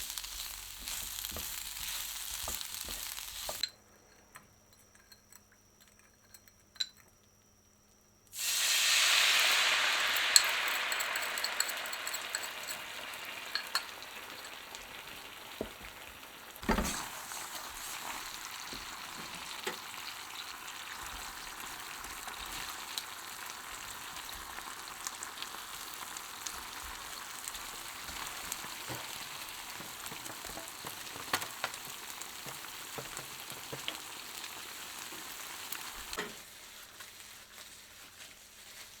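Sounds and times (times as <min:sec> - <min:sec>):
food sizzling in hot oil: 0:00.0 - 0:03.6, 0:08.3 - 0:39.0.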